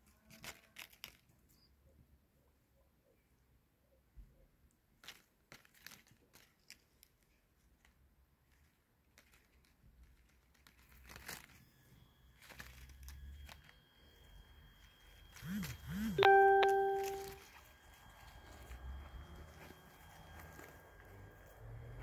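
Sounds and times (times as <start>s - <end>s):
rustling and crinkling: 0.0s - 2.1s, 4.2s - 22.0s.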